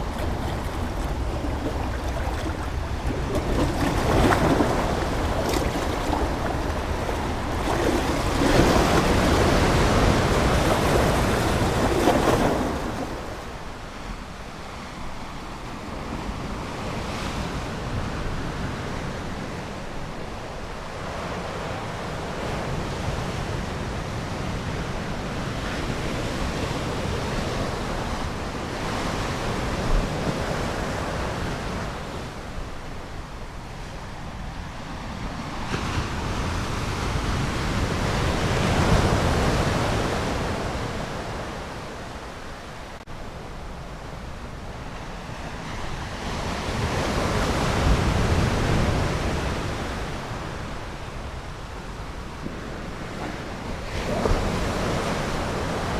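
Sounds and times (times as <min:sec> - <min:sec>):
ocean waves surf: 0:00.0 - 0:55.9.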